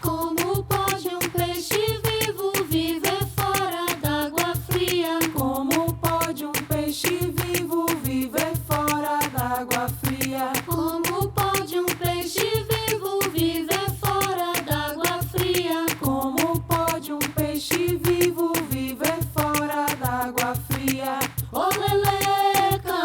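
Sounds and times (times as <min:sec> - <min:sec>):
steady percussive beat: 0:00.0 - 0:23.0
women's choir singing: 0:00.0 - 0:23.0.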